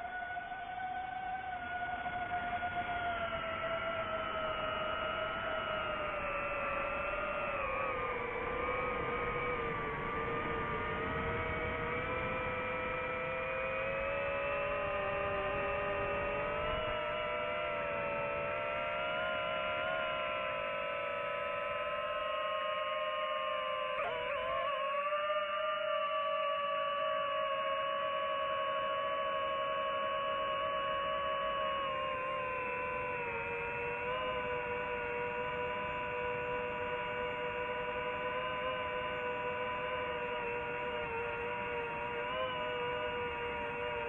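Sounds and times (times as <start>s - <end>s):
drone motors whining: 0.0s - 44.0s.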